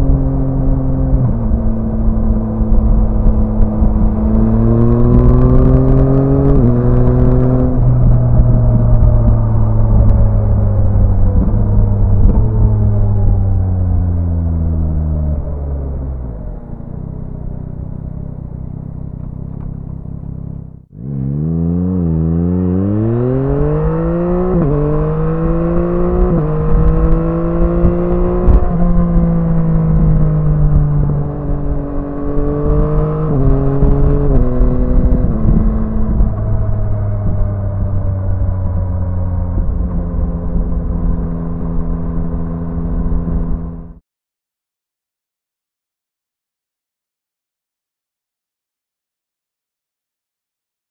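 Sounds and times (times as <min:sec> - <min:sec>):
motorcycle engine shifting gears: 0:00.0 - 0:44.0.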